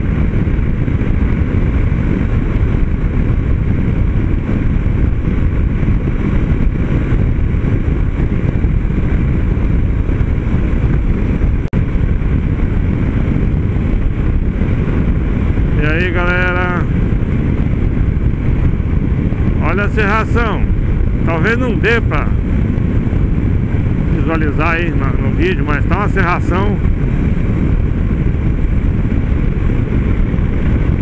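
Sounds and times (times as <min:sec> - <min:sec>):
motorcycle engine cruising: 0:00.0 - 0:31.0
wind rush over microphone: 0:00.0 - 0:31.0.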